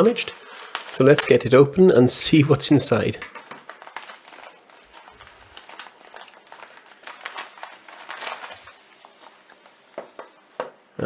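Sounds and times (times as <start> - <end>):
plastic mailer bag crinkling: 0.0 - 10.9.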